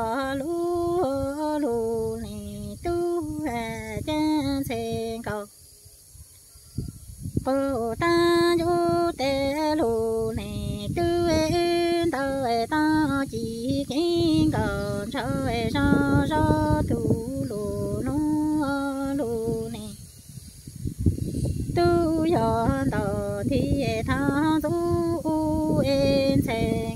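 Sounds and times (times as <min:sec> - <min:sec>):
woman singing unaccompanied: 0:00.0 - 0:05.8, 0:07.2 - 0:26.9.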